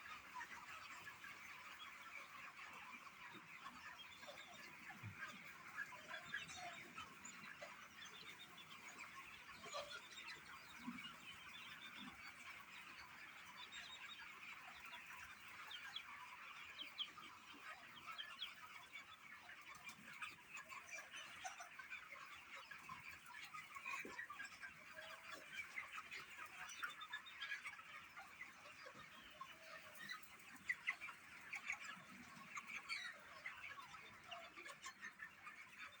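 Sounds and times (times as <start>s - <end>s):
many birds clucking and chirping: 0.0s - 36.0s.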